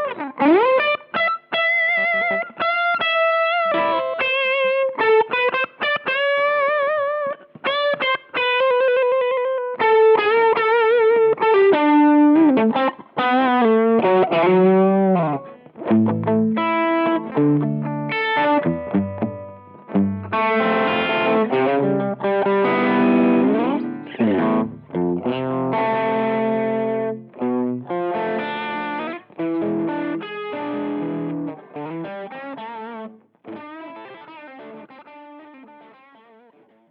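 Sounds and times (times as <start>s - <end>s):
overdriven electric guitar: 0.0s - 36.9s.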